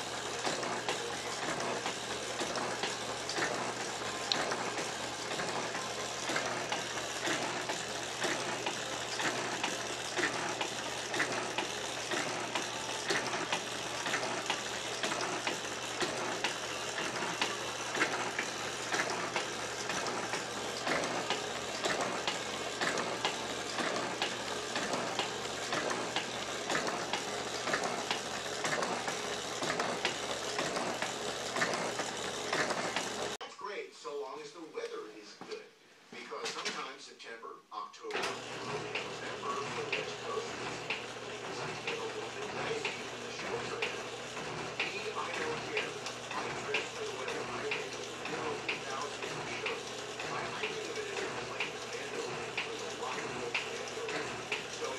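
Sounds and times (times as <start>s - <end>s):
metal shaper running: 0.0s - 33.4s, 38.1s - 54.9s
regular mechanical clicks: 0.0s - 33.4s, 38.1s - 54.9s.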